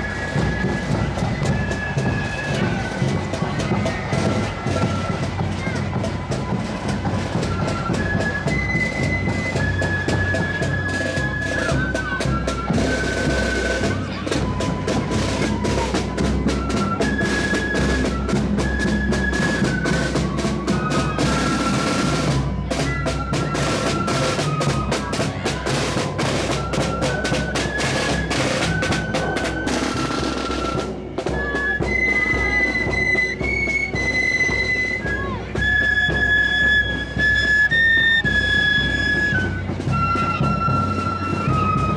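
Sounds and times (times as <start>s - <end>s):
flute melody: 0.0s - 41.9s
snare drums rattling: 0.0s - 41.9s.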